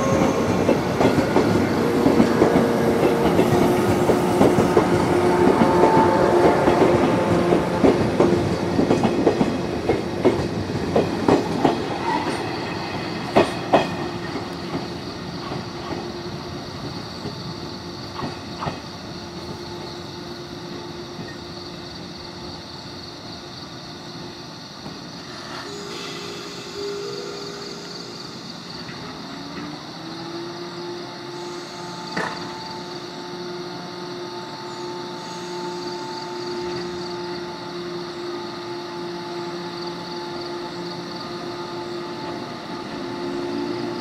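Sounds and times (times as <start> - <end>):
train running hum: 0.0 - 44.0.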